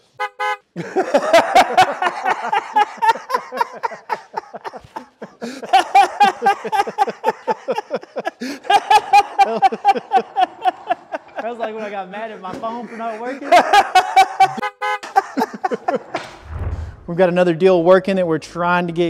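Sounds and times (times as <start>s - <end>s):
men laughing: 0.8s - 16.4s.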